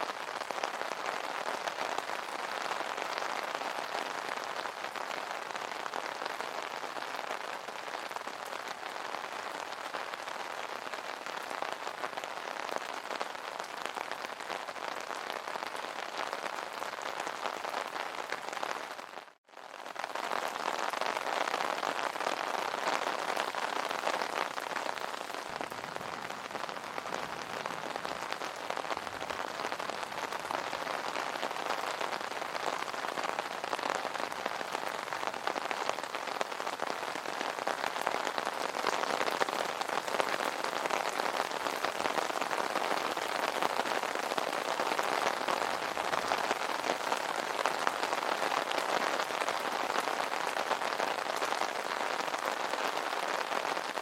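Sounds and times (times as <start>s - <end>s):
rain pattering on umbrella: 0.0s - 54.0s.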